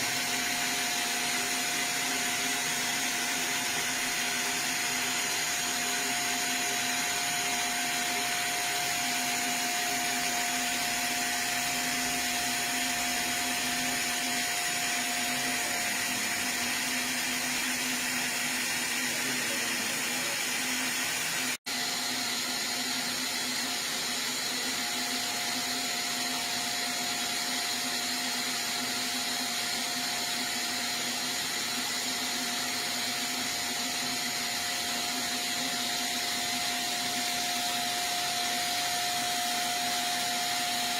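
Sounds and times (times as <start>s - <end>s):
lathe whirring hiss: 0.0s - 40.9s.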